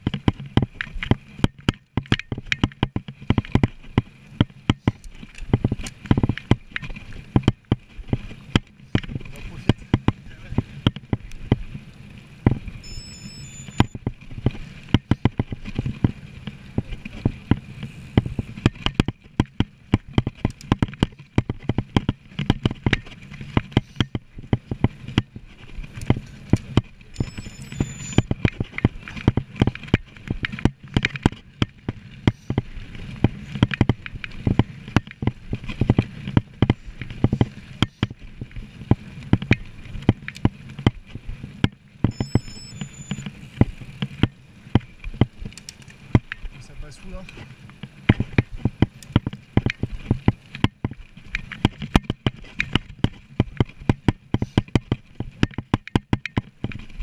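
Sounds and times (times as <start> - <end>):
bike rattling over bumps: 0.0 - 57.0
wind: 0.0 - 57.0.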